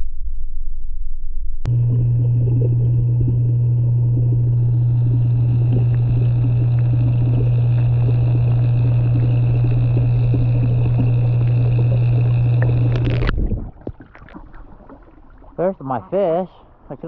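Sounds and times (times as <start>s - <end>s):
water noise: 1.7s - 17.0s
water pump humming: 1.7s - 17.0s.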